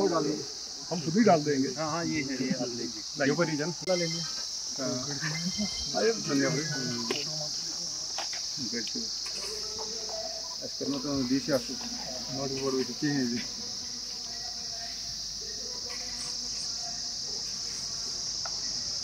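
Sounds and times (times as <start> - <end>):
men talking: 0.0 - 15.8
high-pitched insect chorus: 0.0 - 19.0.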